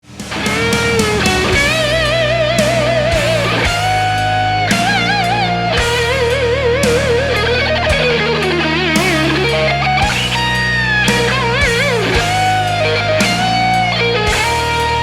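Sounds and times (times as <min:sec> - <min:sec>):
low bass notes: 0:00.0 - 0:15.0
overdriven electric guitar lead: 0:00.0 - 0:15.0.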